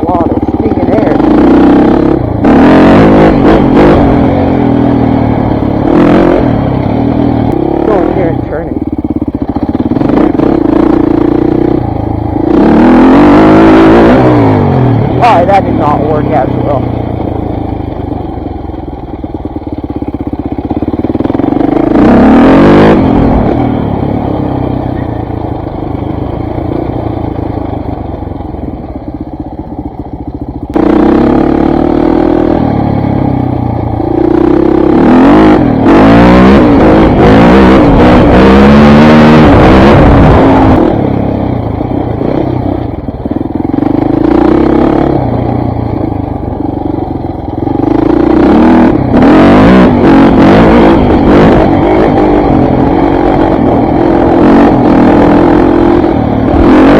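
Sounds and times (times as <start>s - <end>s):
dirt bike engine revving: 0.0s - 28.9s, 30.7s - 56.9s.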